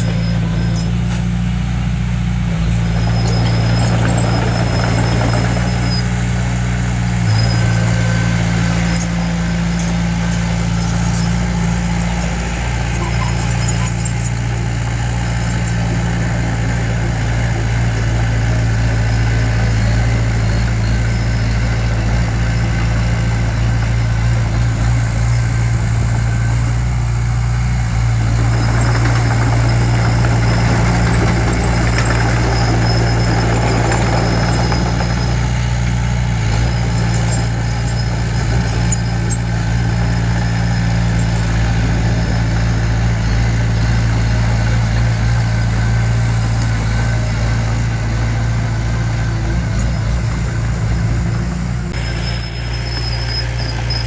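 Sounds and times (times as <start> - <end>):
diesel construction equipment engine: 0.0 - 54.0.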